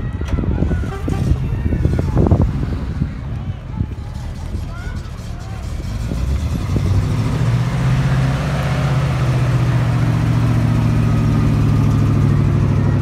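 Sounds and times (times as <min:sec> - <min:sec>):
engine running: 0:00.2 - 0:13.0.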